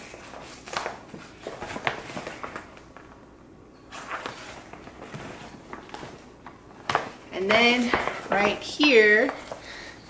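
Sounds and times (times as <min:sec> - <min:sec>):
fabric rustling and crinkling: 0:00.0 - 0:03.2, 0:03.9 - 0:09.6.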